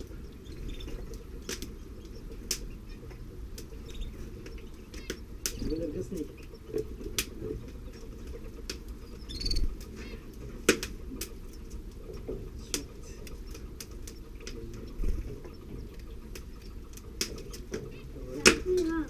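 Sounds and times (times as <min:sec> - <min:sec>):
canary chirping: 0:00.0 - 0:10.3, 0:12.5 - 0:19.0
sharp taps and rustles: 0:00.0 - 0:19.0.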